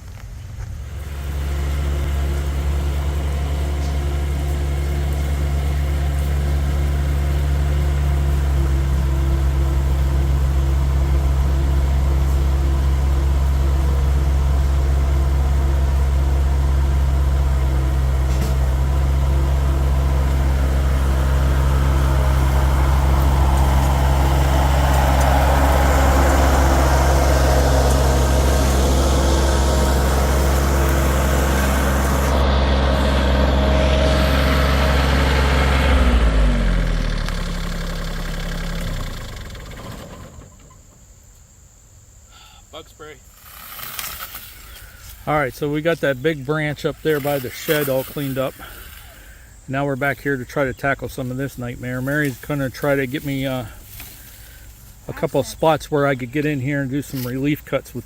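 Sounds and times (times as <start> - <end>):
tractor engine running: 0.0 - 41.4, 43.4 - 58.0.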